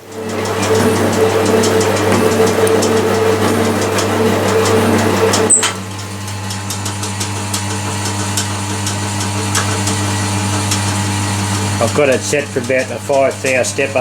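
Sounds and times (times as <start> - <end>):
machine tool motor humming: 0.0 - 14.0.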